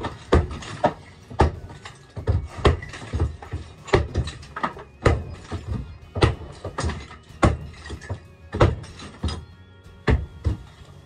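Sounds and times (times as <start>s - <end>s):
plaster wall being broken: 0.0s - 11.0s.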